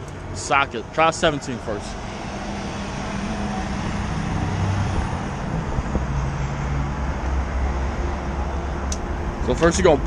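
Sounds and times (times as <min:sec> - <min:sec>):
vehicle engine rumble: 0:00.0 - 0:10.0.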